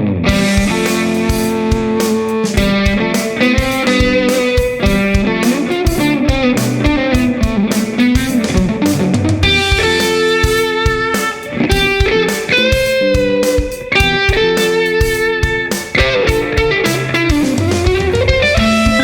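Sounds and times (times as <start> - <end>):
electric guitar lead line: 0.0 - 19.0
steady beat: 0.3 - 19.0.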